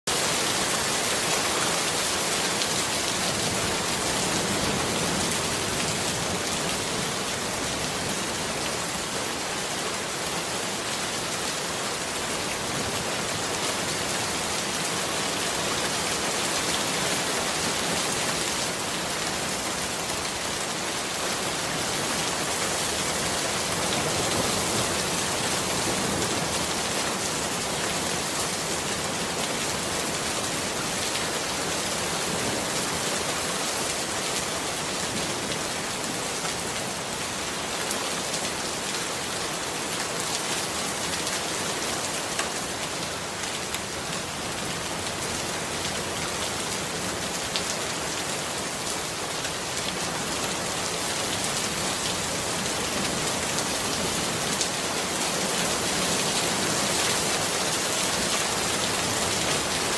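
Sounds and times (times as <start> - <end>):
rain on leafy plants: 0.0 - 59.9.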